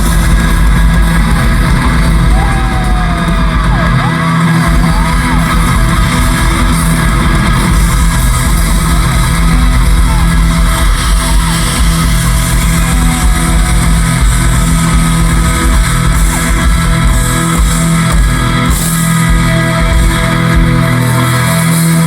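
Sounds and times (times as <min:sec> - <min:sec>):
live rock band playing: 0:00.0 - 0:22.0
wavering lead guitar line: 0:00.0 - 0:22.0.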